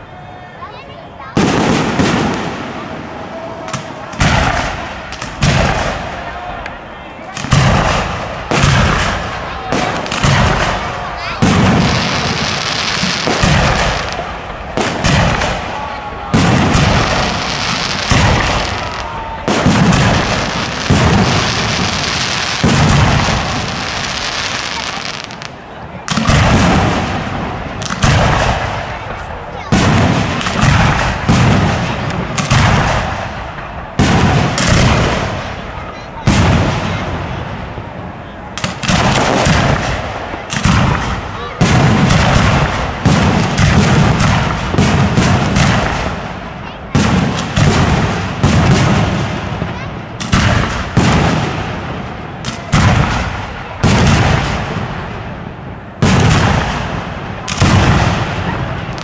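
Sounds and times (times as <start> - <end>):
firework shells booming: 1.3 - 59.0.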